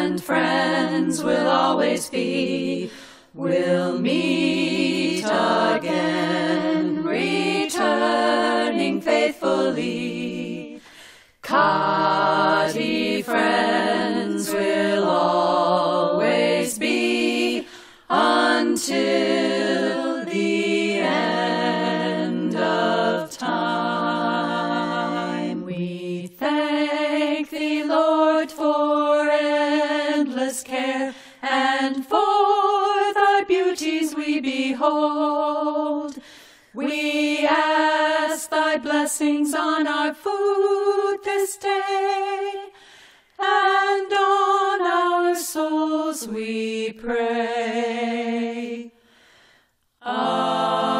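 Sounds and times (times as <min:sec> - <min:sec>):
group singing a cappella: 0:00.0 - 0:50.9.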